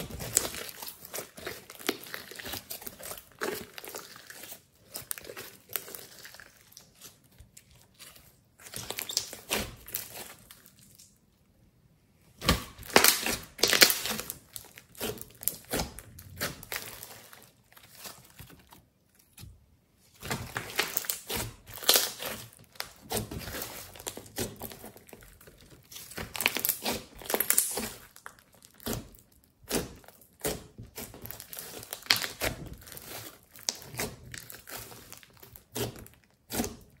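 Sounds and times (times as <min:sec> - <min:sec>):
sticky slime crackles and clicks: 0:00.0 - 0:11.2, 0:12.4 - 0:19.5, 0:20.2 - 0:37.0.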